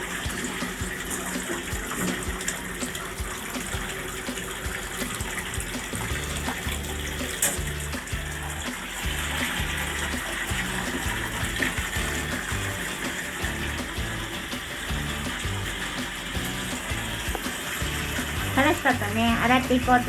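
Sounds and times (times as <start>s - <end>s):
tap water running into bathtub: 0.0s - 20.0s.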